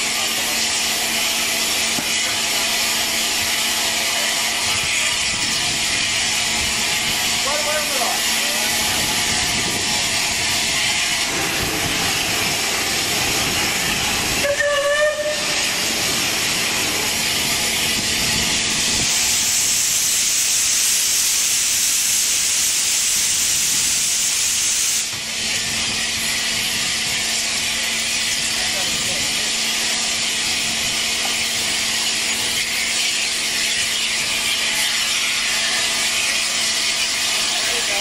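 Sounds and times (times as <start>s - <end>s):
steam hissing from train: 0.0s - 38.0s.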